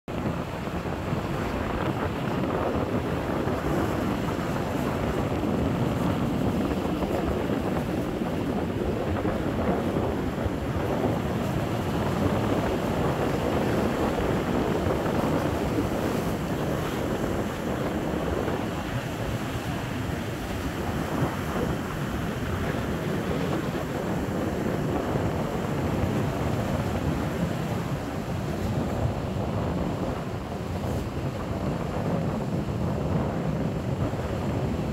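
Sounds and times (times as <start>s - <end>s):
wind buffeting microphone: 0.1s - 34.9s
surf breaking over rocks: 0.2s - 34.9s.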